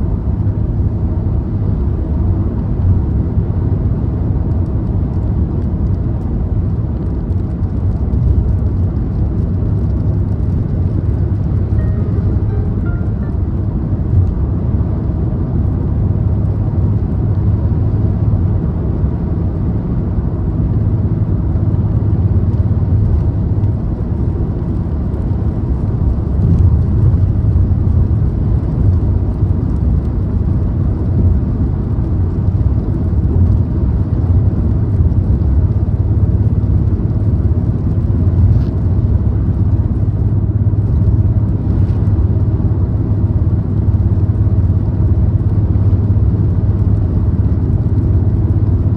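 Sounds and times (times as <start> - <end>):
car engine and tyres rumbling: 0.0 - 48.9.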